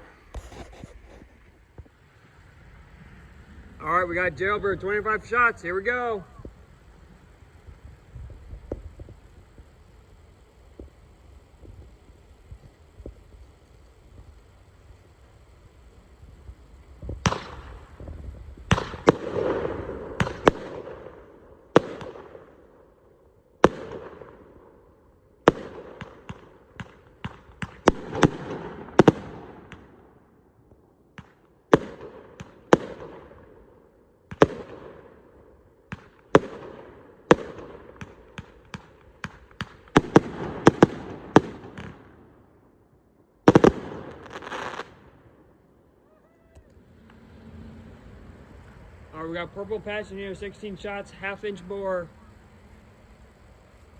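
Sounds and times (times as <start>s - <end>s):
firework bangs: 0.0s - 53.9s
firework crackle: 0.0s - 53.9s.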